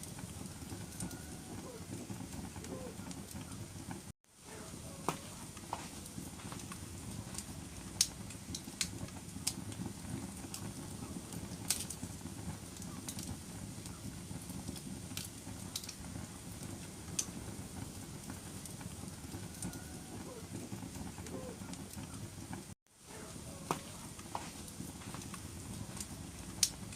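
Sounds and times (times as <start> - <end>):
low rumble of fire flames: 0.0 - 26.9
wood fire crackles and pops: 0.0 - 26.9.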